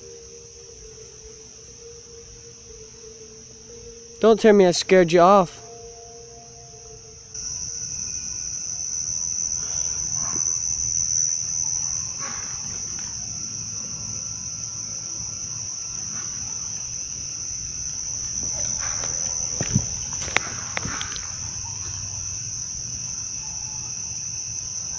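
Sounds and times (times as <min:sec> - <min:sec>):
night insects chorus: 0:00.0 - 0:24.9.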